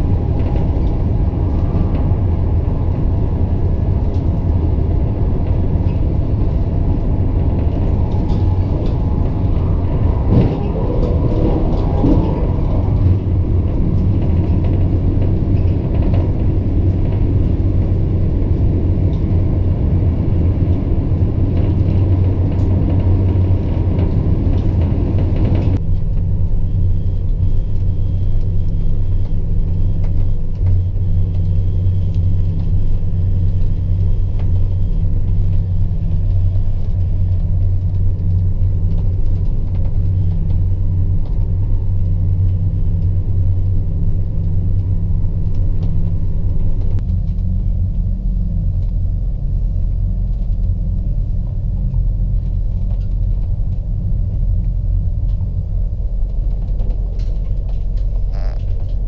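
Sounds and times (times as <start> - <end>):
train interior rumble: 0.0 - 59.0.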